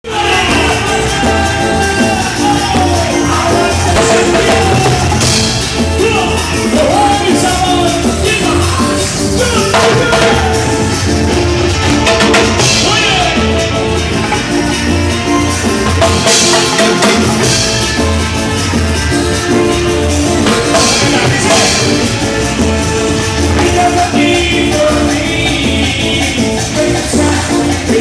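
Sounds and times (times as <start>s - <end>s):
latin band music: 0.0s - 28.0s.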